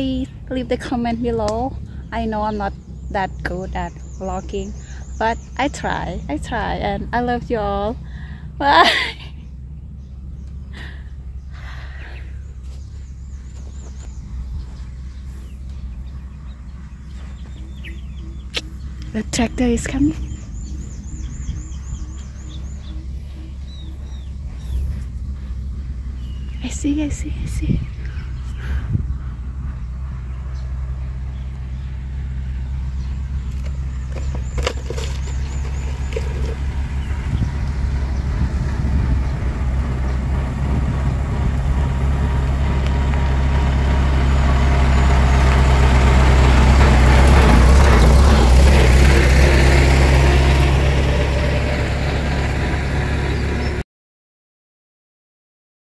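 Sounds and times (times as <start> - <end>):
tractor engine running: 0.0 - 53.8.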